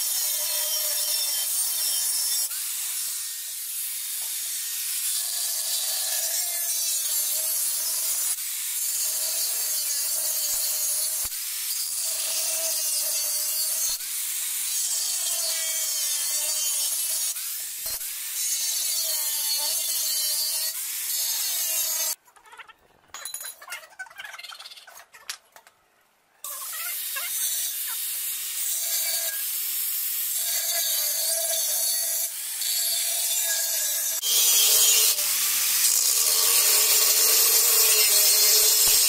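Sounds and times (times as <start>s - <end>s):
angle grinder cutting cement: 0.0s - 22.2s, 26.5s - 39.0s.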